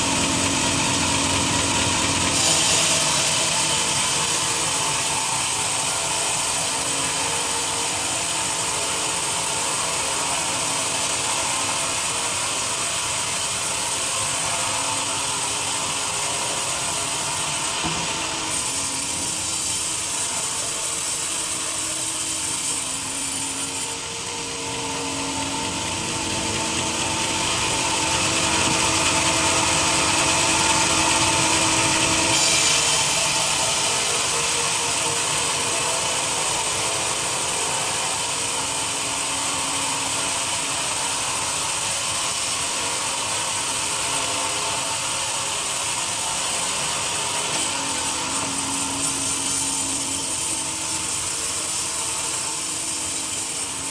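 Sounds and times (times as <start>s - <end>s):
sawmill saw cutting log: 0.0s - 53.9s.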